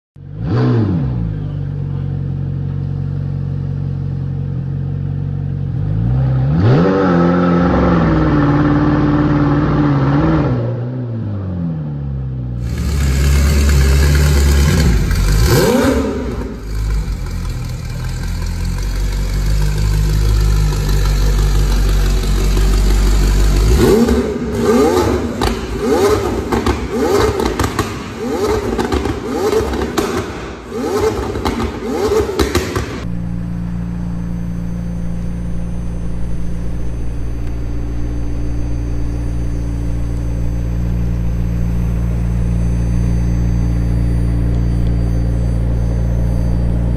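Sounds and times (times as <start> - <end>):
sports car engine idling and revving: 0.2 - 46.9.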